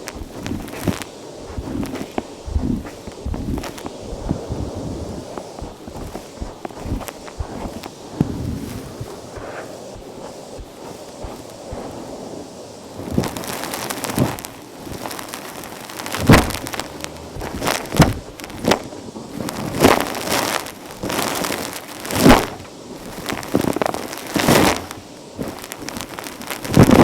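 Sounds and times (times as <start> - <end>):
vacuum cleaner sucking up dirt: 0.0 - 27.0.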